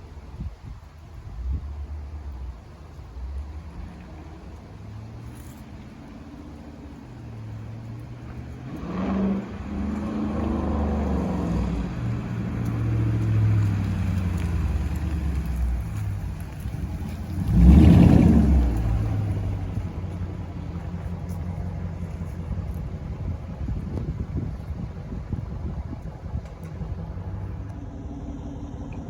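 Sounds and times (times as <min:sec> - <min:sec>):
car engine accelerating: 0:01.2 - 0:29.0.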